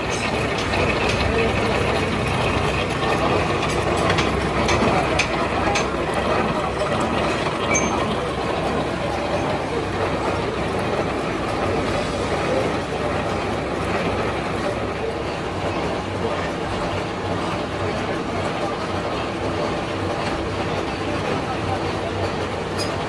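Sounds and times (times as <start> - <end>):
gear-cutting machine running: 0.0 - 23.0.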